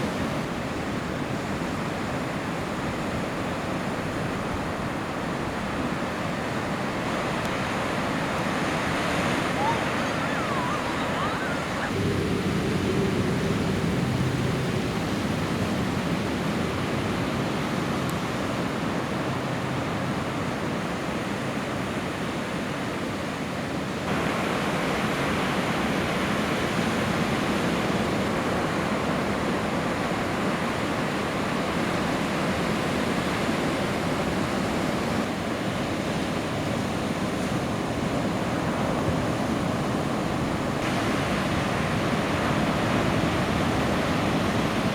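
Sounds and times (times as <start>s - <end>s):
ocean surf: 0.0s - 44.9s.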